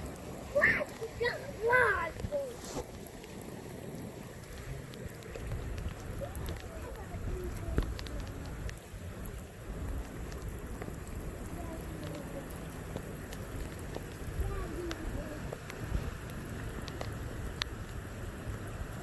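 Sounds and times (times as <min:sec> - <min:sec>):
raindrops ticking on surface: 0:00.0 - 0:19.0
steady rain: 0:00.0 - 0:19.0.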